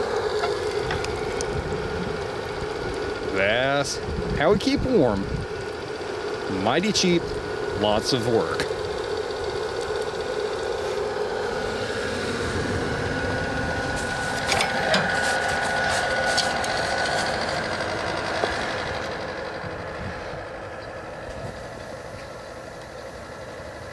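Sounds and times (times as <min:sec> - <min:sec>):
blower fan whining: 0:00.0 - 0:23.9
fire burning: 0:00.0 - 0:23.9.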